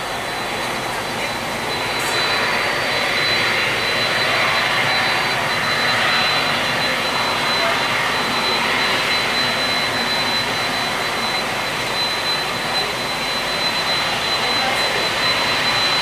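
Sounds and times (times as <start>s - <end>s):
jet engines at taxi thrust: 0.0s - 16.0s.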